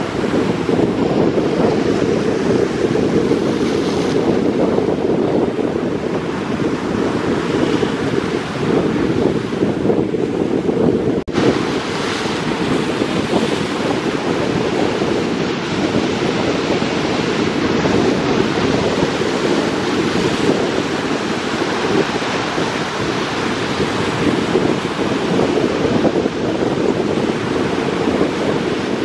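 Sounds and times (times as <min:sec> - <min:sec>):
surf breaking on beach: 0:00.0 - 0:29.0
wind rumbling on microphone: 0:00.0 - 0:29.0.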